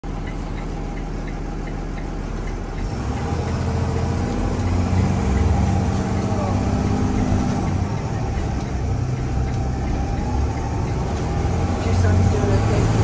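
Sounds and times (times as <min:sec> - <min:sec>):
bus engine roaring with fan: 0:00.0 - 0:13.0
light regular ticking: 0:00.0 - 0:13.0.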